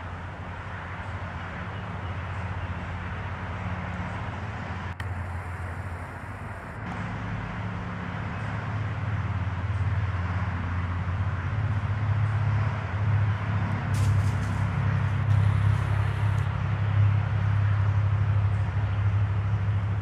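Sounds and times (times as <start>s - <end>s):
traffic engine hum: 0.0s - 20.0s.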